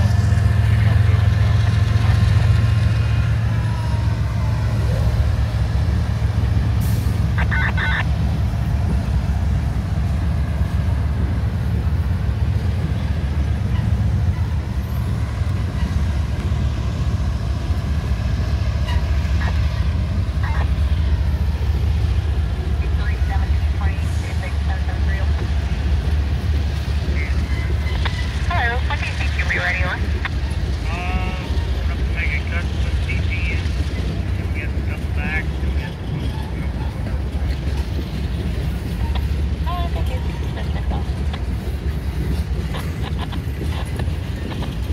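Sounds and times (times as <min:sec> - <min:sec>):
locomotive engine rumble: 0:00.0 - 0:44.9.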